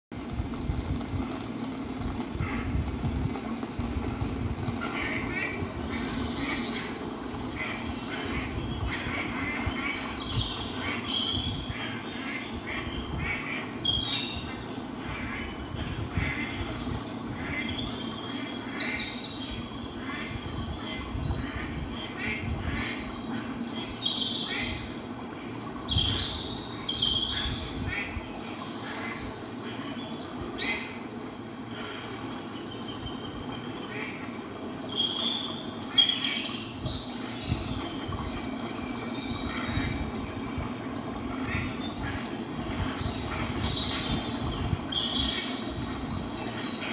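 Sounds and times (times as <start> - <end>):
small birds chirping: 0.2 - 46.9.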